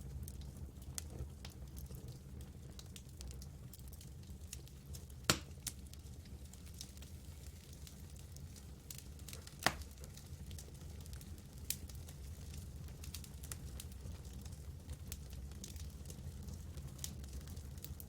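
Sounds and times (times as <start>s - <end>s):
campfire crackling and popping: 0.2s - 18.0s.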